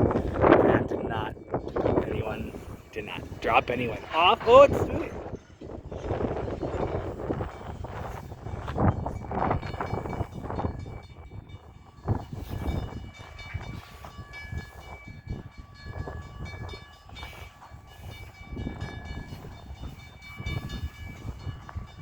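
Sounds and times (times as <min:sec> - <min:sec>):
rail cars clattering: 0:00.0 - 0:22.0
train rumbling: 0:00.0 - 0:22.0
crossing bell ringing: 0:00.3 - 0:22.0.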